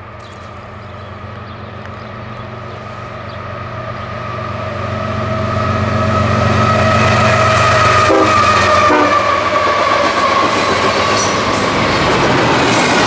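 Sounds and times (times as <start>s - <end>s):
diesel locomotive engine hum: 0.0s - 13.0s
locomotive whine: 0.0s - 13.0s.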